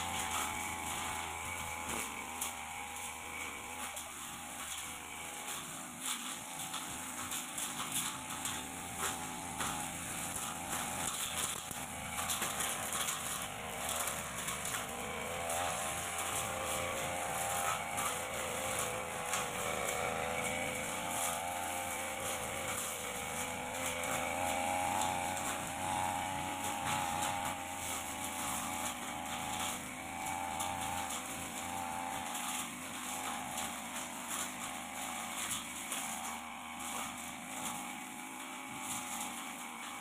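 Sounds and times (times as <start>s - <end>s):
blade cutting grass: 0.0s - 40.0s
brush cutter engine running: 0.0s - 40.0s.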